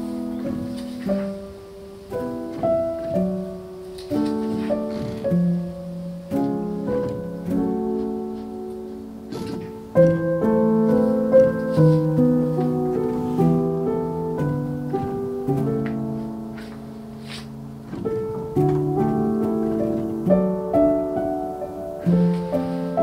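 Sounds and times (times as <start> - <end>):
soft piano music: 0.0 - 23.0.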